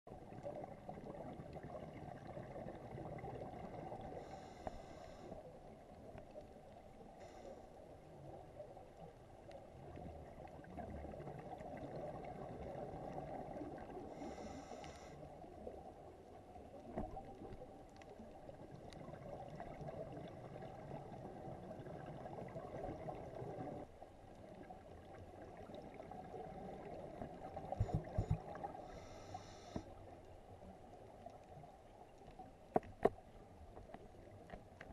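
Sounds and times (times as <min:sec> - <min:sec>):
underwater rushing and bubbling: 0:00.1 - 0:34.9.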